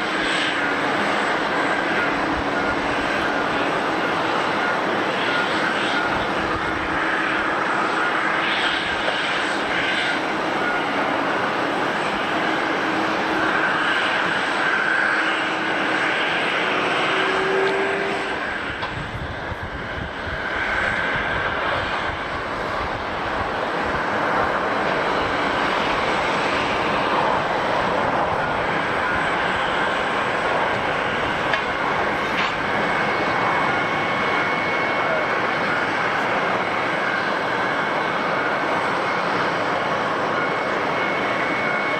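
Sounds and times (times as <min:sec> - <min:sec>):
jet airliner engines running: 0:00.0 - 0:41.9.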